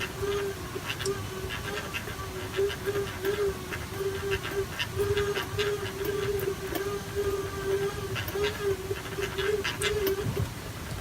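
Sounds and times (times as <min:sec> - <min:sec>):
drone propellers buzzing: 0:00.0 - 0:10.6.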